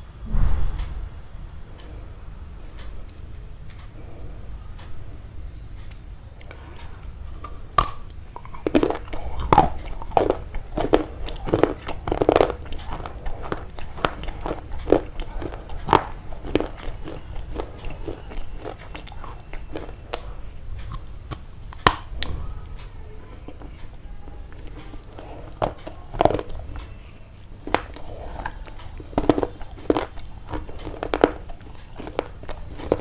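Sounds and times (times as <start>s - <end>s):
close-up crunching and clicks: 5.8s - 33.0s.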